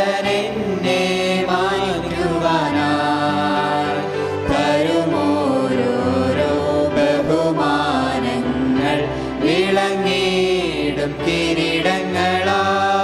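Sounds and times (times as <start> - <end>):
hymn singing: 0.0 - 13.0
instrumental accompaniment: 0.0 - 13.0.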